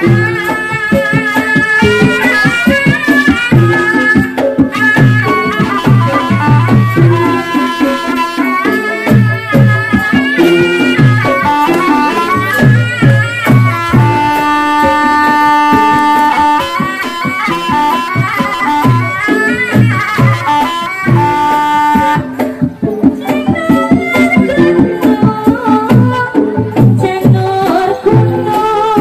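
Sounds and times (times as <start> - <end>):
drum strokes: 0.0 - 29.0.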